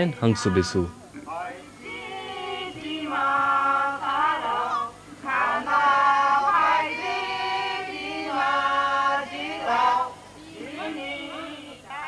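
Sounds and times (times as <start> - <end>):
voices singing slow melody: 0.0 - 12.0.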